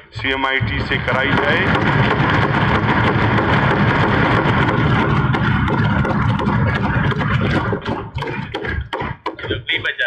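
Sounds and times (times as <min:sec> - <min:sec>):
desk thumping: 0:00.9 - 0:10.0.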